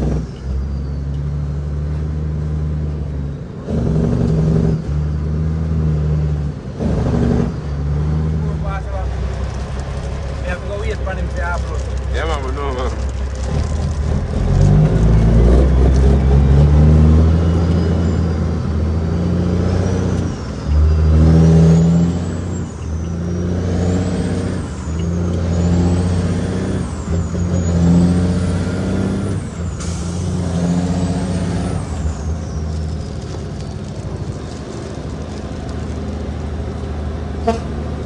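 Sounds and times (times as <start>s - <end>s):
diesel truck engine under load: 0.0s - 38.0s.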